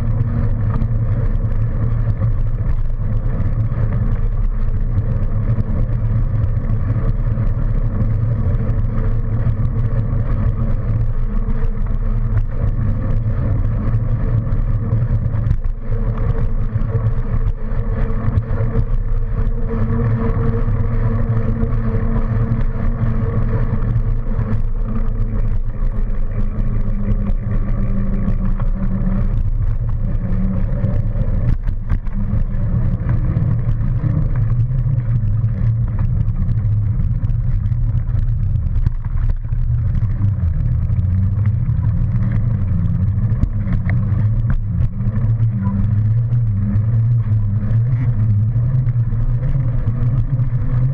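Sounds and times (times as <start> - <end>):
faint hum: 0.0 - 50.9
tyre noise on path: 0.0 - 50.9.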